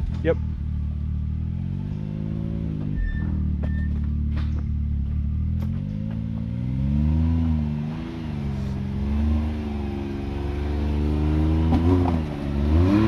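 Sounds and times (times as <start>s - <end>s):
utility vehicle engine revving: 0.0s - 13.0s.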